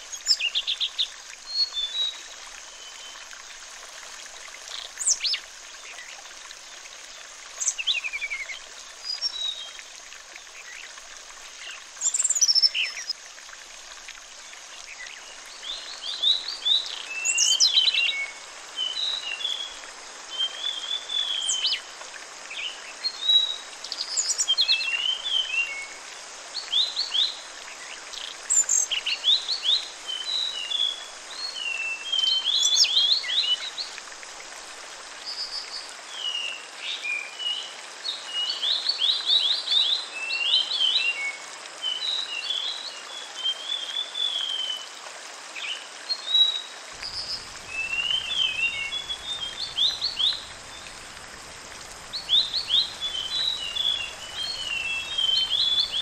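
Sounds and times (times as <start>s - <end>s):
falling water rushing: 0.0s - 36.1s, 46.3s - 56.0s.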